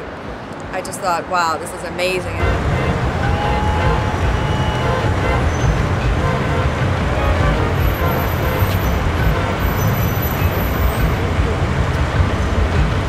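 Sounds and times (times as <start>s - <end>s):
cars passing on busy road: 0.0s - 13.0s.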